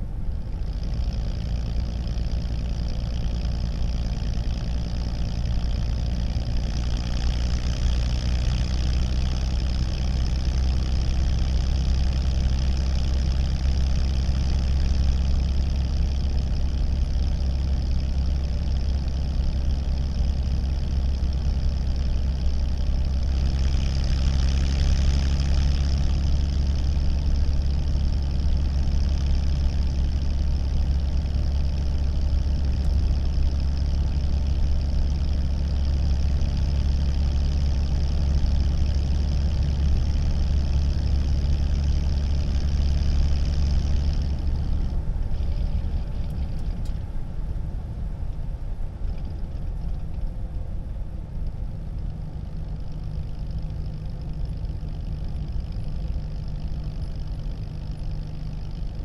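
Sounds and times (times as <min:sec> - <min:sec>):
car engine running steadily: 0:00.0 - 0:59.0.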